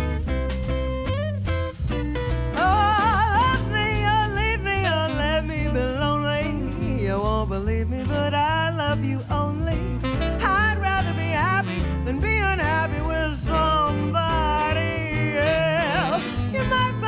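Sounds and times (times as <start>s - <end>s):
jazz band playing: 0.0s - 17.0s.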